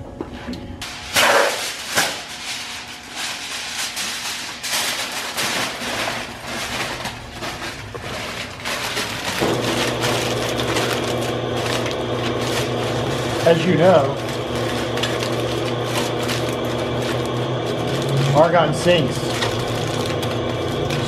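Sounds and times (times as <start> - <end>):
aluminium foil crinkling: 0.8 - 21.0.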